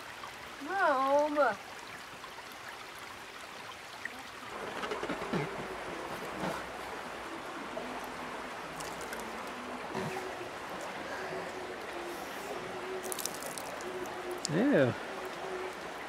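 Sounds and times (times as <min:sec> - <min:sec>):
stream trickling: 0:00.0 - 0:16.0.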